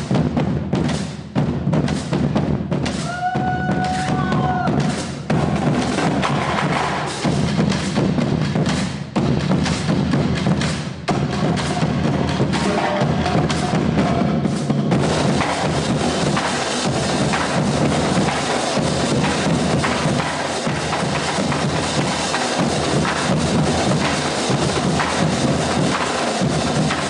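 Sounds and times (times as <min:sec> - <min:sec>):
marching drumline playing: 0:00.0 - 0:27.0.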